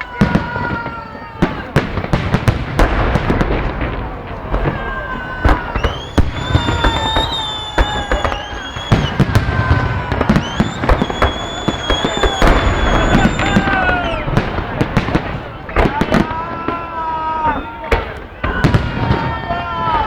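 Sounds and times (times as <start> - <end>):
fireworks bangs and crackles: 0.0 - 20.0
high whistling fireworks: 0.0 - 20.0.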